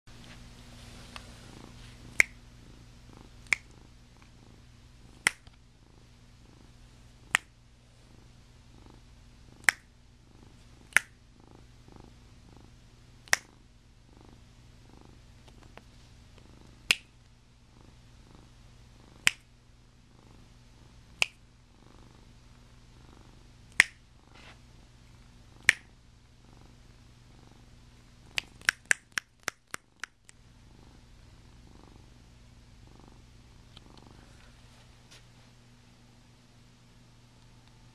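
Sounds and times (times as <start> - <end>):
cat purring: 0.2 - 34.7.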